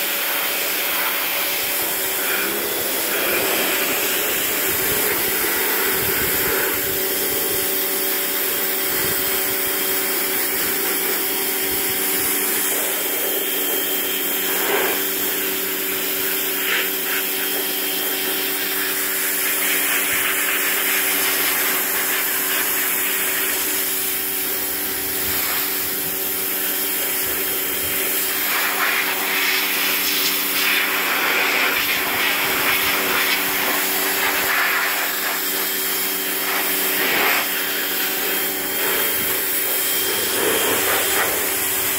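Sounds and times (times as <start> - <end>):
pressure washer motor hum: 0.0 - 41.9.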